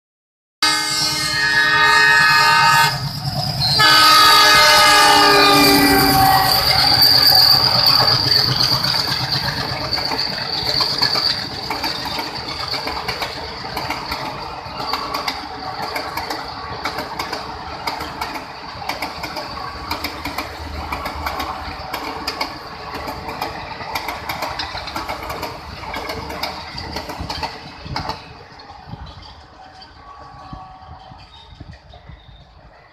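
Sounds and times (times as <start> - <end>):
train wheels rumbling on rail: 0.6 - 32.9
wheels clicking over rail joints: 6.1 - 32.5.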